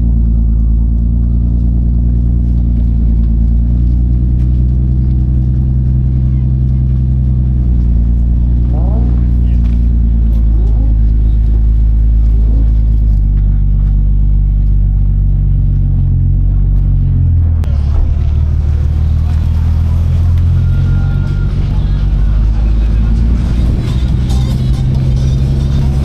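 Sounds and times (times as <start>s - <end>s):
car engine at low revs: 0.0s - 26.0s.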